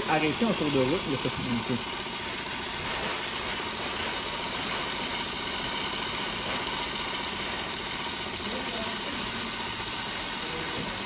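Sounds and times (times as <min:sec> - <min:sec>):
coffee machine frothing milk: 0:00.0 - 0:11.0.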